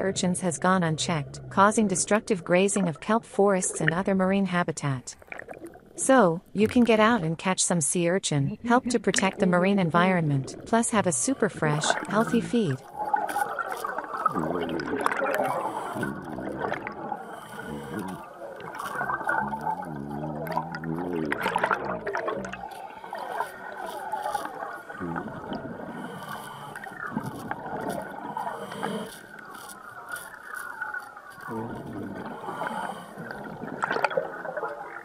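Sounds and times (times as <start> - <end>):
underwater gurgling and bubbling: 0.0 - 7.2, 8.9 - 35.0.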